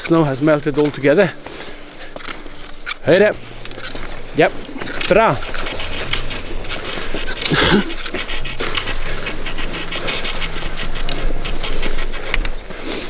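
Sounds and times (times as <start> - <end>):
dog panting rapidly: 0.0 - 13.0.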